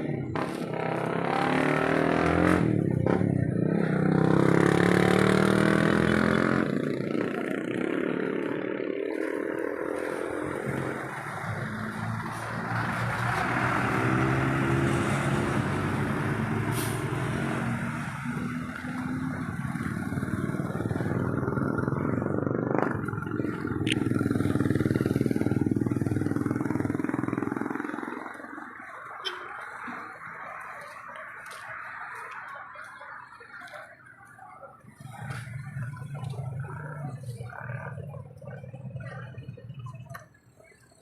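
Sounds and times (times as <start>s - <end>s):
vehicle engine accelerating: 0.0s - 40.3s
road and traffic noise: 0.0s - 41.0s.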